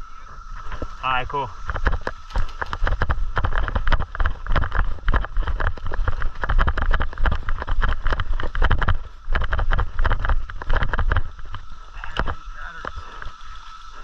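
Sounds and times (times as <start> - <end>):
footsteps crunching dry leaves: 0.4 - 14.0.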